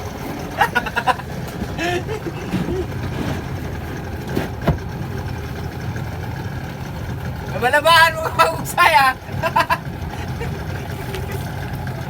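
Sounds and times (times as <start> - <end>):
banana boat rumbling under tow: 0.0 - 12.0
distant voices calling out: 0.0 - 12.0.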